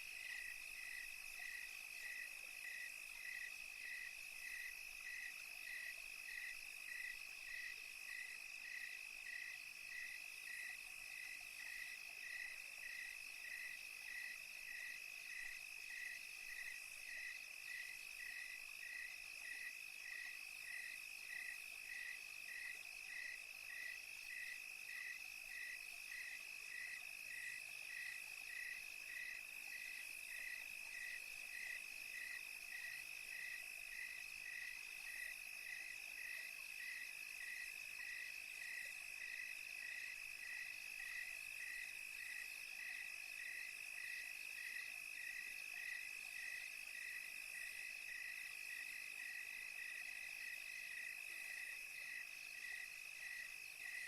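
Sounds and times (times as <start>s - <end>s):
crickets chirping: 0.0s - 54.0s
faint insect hiss: 0.0s - 54.0s.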